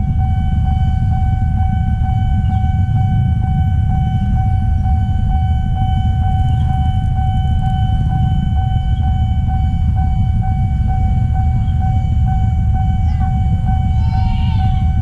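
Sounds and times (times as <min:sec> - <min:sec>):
constant low rumble: 0:00.0 - 0:15.0
pulsing level crossing alarm: 0:00.0 - 0:15.0.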